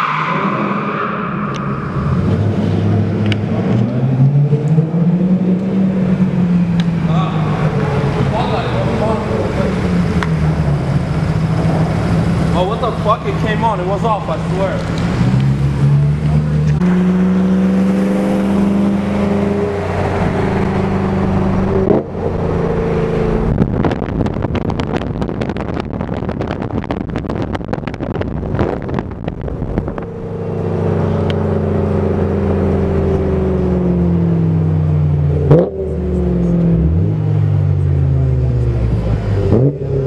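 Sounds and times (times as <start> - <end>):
car engines accelerating: 0.0 - 40.0.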